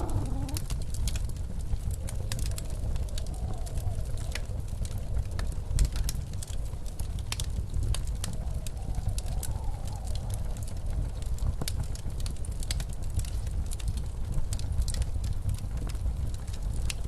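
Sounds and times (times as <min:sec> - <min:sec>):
fireplace crackling and popping: 0:00.0 - 0:17.0
low rumble of wind: 0:00.0 - 0:17.0.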